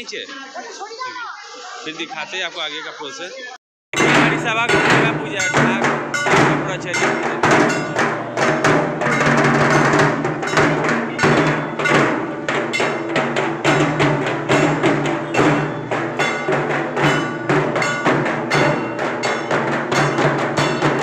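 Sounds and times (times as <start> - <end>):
barrel drums beaten with sticks: 4.0 - 21.0.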